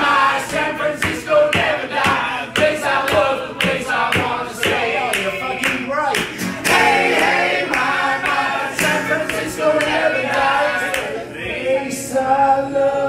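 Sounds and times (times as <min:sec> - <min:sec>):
crowd singing along live: 0:00.0 - 0:13.0.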